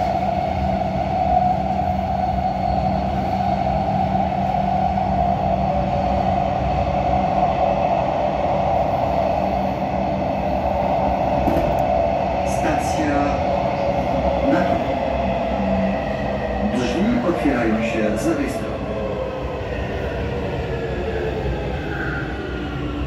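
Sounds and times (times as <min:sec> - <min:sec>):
metro train rumbling in tunnel: 0:00.0 - 0:23.0.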